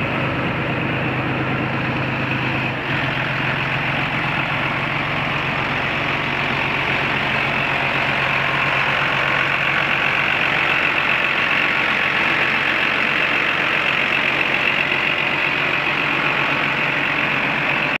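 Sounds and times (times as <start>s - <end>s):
diesel tractor engine idling: 0.0s - 18.0s.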